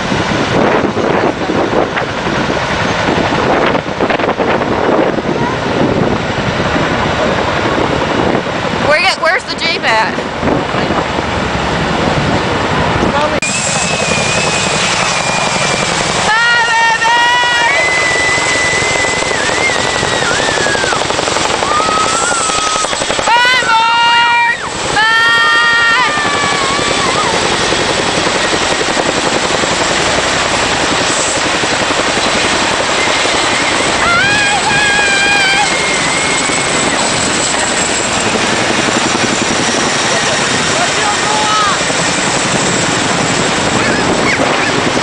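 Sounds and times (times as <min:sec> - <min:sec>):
helicopter engines and rotors: 0:00.0 - 0:45.0
wind buffeting microphone: 0:00.0 - 0:45.0.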